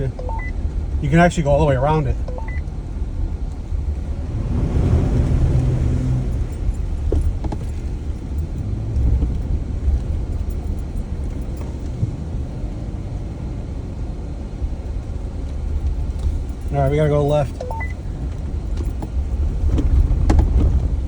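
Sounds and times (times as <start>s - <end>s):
off-road vehicle engine and tyres: 0.0s - 21.0s.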